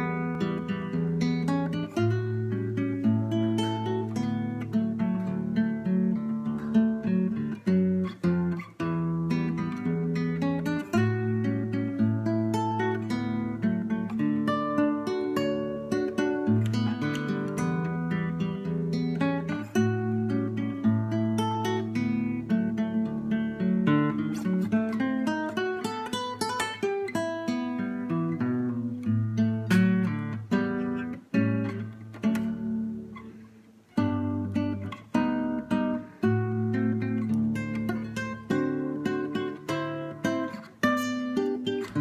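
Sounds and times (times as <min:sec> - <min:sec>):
acoustic guitar playing: 0:00.0 - 0:42.0.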